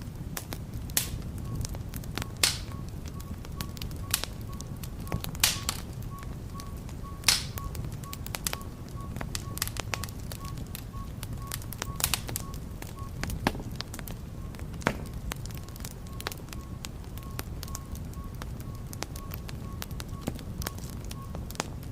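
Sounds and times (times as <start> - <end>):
low rumble of flames: 0.0 - 21.9
wood fire crackling and popping: 0.0 - 21.9.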